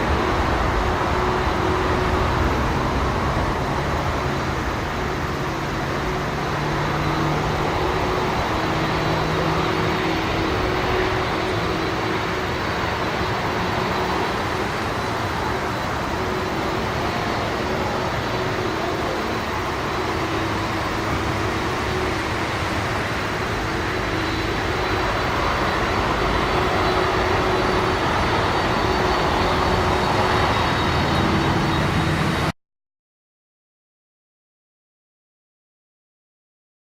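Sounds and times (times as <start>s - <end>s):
jet engine rumble: 0.0s - 32.6s.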